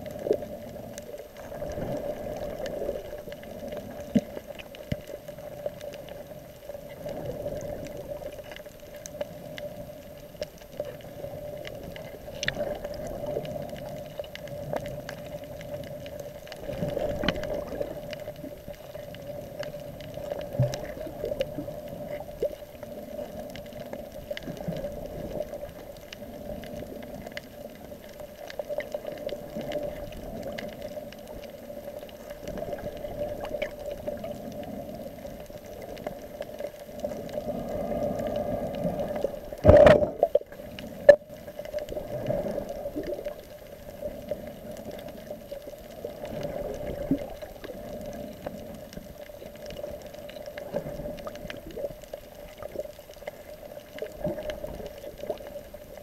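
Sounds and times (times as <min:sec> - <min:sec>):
muffled underwater sloshing: 0:00.0 - 0:56.0.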